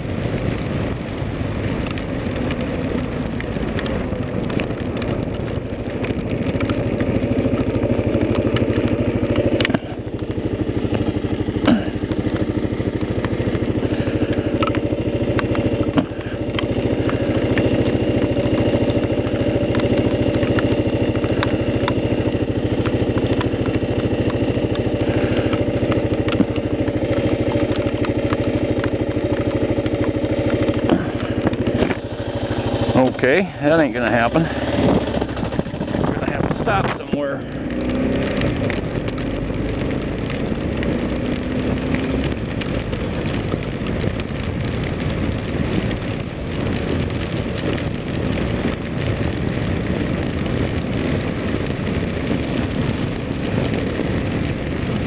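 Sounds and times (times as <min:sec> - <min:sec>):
motorcycle engine running: 0:00.0 - 0:55.0
wind and wet road hiss: 0:00.0 - 0:55.0.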